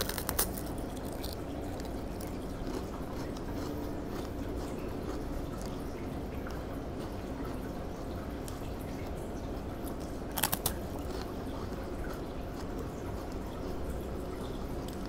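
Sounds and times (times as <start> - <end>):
cracker being chewed: 0.0 - 15.0.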